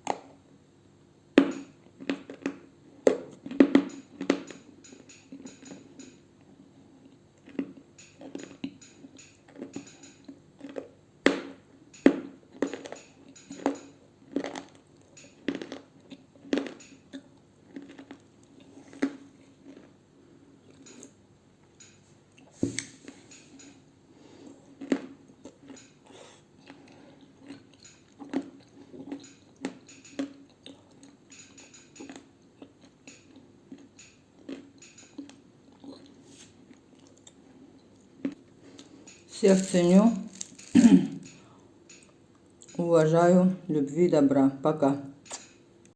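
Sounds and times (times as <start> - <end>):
clay being chewed: 1.4 - 21.2, 24.4 - 42.8.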